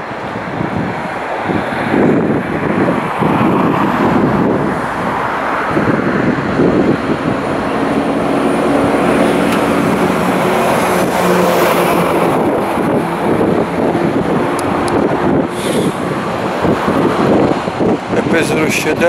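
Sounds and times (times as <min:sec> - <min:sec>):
electric train rumbling: 0:00.0 - 0:18.2.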